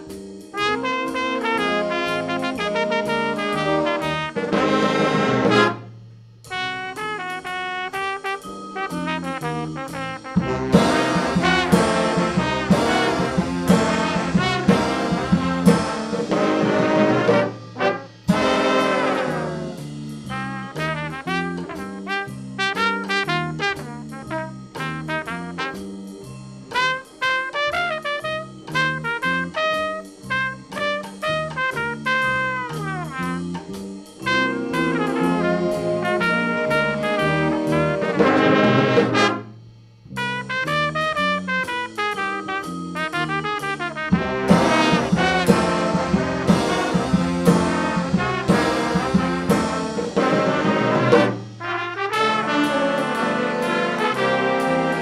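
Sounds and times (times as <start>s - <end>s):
solo trumpet: 0.0s - 26.0s, 26.7s - 55.0s
jazz big band playing: 0.0s - 55.0s.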